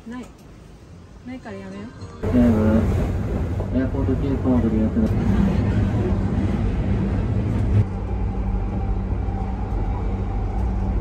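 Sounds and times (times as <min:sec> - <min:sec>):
train car rumble and hum: 0:00.0 - 0:11.0.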